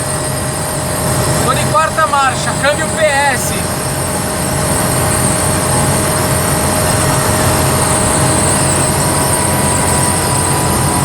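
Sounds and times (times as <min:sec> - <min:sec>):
car engine pulling uphill: 0:00.0 - 0:11.0
gearbox whine: 0:00.0 - 0:11.0.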